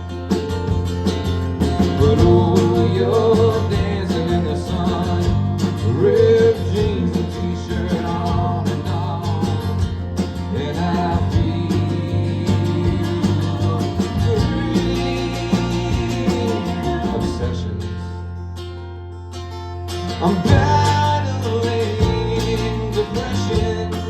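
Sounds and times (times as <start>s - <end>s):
drum beat: 0.0s - 17.4s, 20.5s - 24.0s
bass: 0.0s - 24.0s
guitars: 0.0s - 24.0s.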